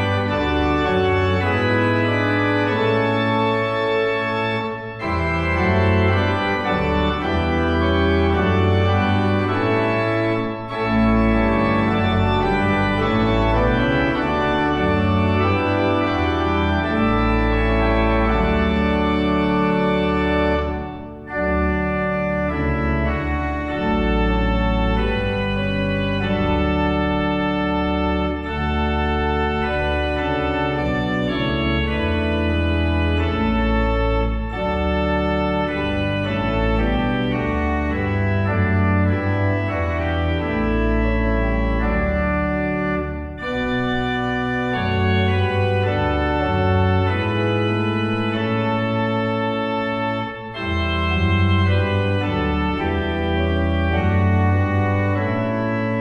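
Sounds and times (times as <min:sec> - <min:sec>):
church organ playing a hymn: 0:00.0 - 0:56.0.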